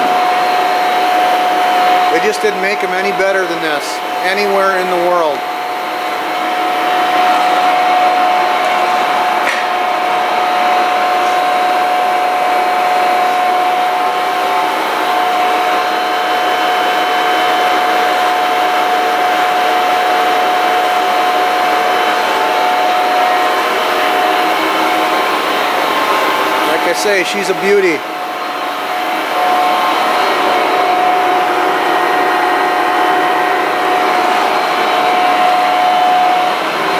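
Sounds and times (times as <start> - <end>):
lathe running with steady whine: 0.0 - 36.9.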